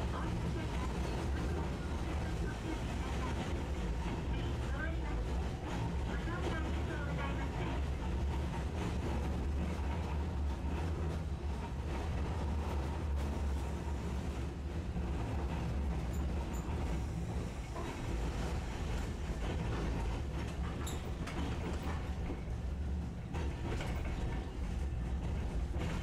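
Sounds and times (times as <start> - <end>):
streetcar running gear rumble: 0.0 - 26.0.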